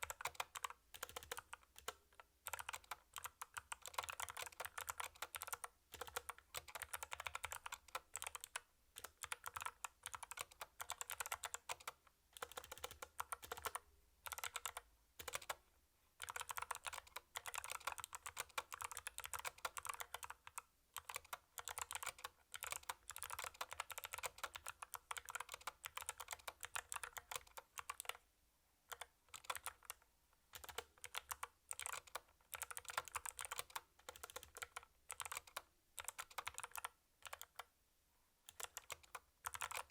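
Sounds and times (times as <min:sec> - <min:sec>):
mechanical keyboard typing: 0:00.0 - 0:15.6, 0:16.2 - 0:28.2, 0:28.9 - 0:37.7, 0:38.5 - 0:39.9.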